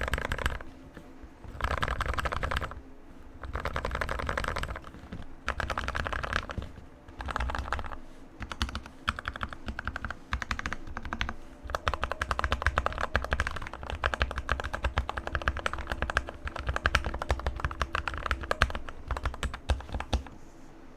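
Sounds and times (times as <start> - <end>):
mechanical keyboard typing: 0.0 - 20.4.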